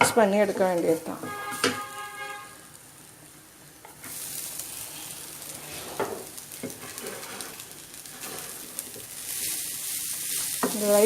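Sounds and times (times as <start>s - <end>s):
rice sizzling in a hot pan: 0.0s - 11.0s
spatula scraping a pan: 0.5s - 2.6s, 3.9s - 11.0s.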